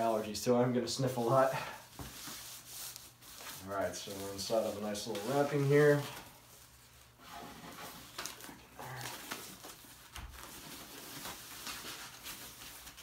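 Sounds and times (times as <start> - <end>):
plastic wrapping crinkling: 2.2 - 13.0.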